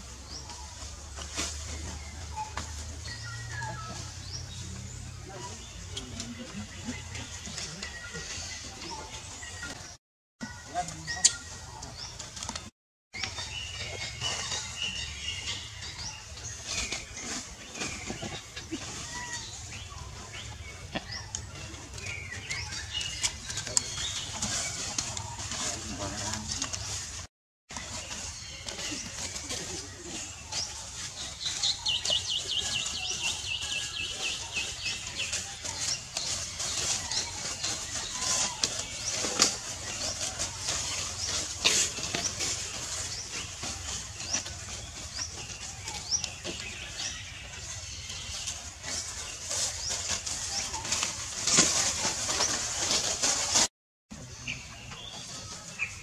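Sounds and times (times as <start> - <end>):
birds chirping: 0.0 - 56.0
dry leaves rustling: 0.0 - 56.0.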